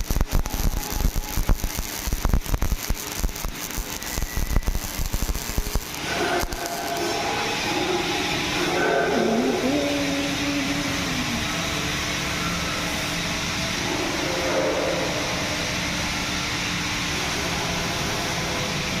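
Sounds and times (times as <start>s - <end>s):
welding arc hissing: 0.0s - 19.0s.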